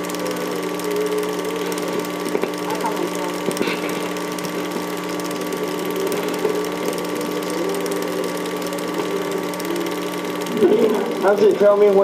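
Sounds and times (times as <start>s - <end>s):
constant hum: 0.0s - 12.0s
film projector whirring and clattering: 0.0s - 12.0s.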